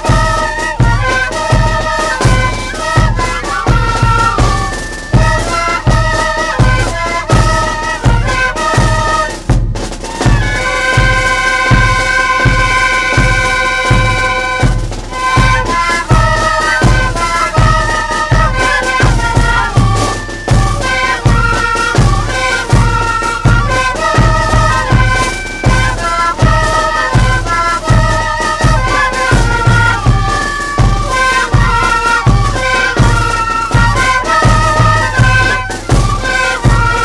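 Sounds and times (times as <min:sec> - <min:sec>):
reedy wind melody: 0:00.0 - 0:37.0.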